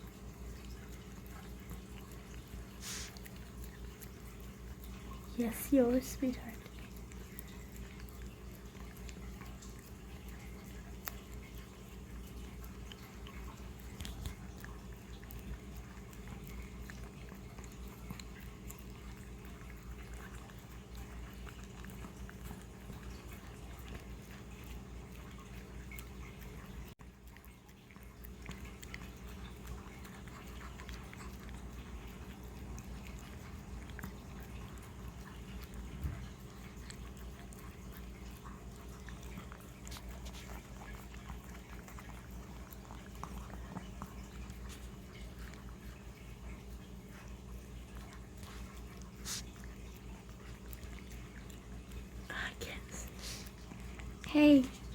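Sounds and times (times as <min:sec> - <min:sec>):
puppy licking and chewing: 0:00.0 - 0:54.9
steady low hum: 0:00.0 - 0:54.9.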